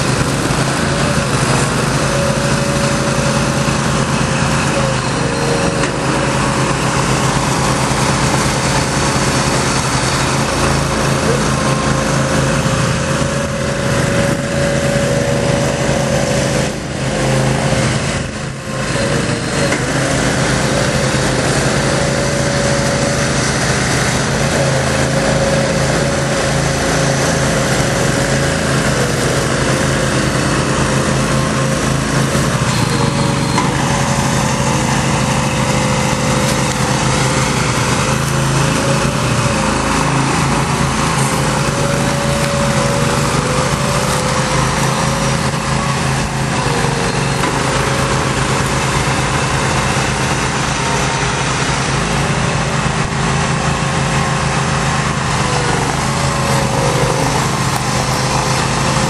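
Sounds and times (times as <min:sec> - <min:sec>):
small engine running under load: 0:00.0 - 0:59.0
steady whine: 0:00.0 - 0:59.0.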